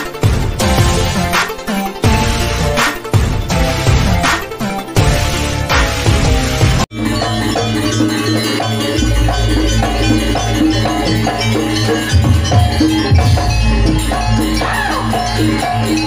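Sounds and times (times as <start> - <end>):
gamelan struck metal notes: 0.0 - 16.0.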